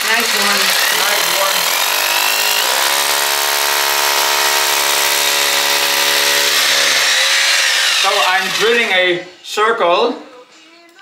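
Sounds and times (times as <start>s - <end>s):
hammer drill boring into masonry: 0.0s - 9.2s.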